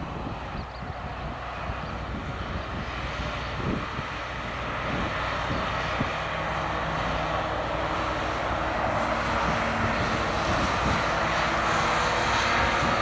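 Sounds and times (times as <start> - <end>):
distant sports car engines: 0.0 - 13.0.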